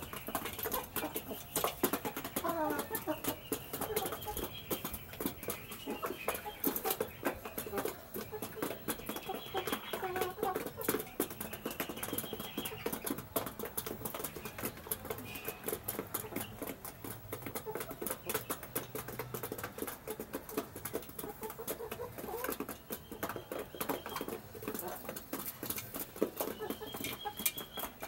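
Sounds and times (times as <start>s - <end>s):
chickens pecking on dirt floor: 0.0s - 28.0s.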